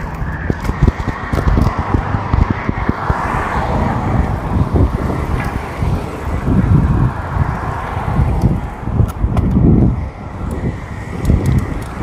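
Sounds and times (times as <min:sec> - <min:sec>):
road traffic noise: 0:00.0 - 0:12.0
wind buffeting microphone: 0:00.0 - 0:12.0.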